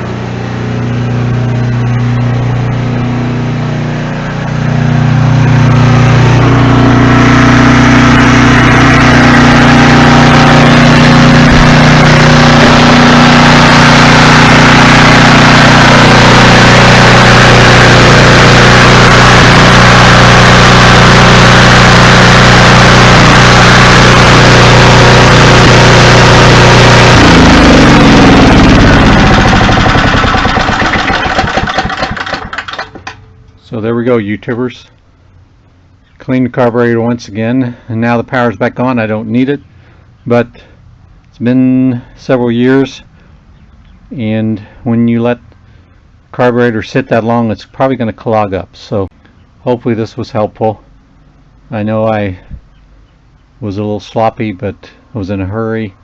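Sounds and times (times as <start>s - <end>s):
generator engine running: 0.0s - 47.5s.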